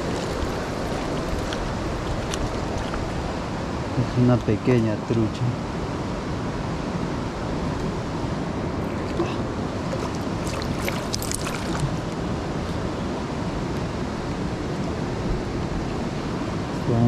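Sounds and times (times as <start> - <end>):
mountain stream rushing: 0.0 - 4.6, 5.6 - 17.0.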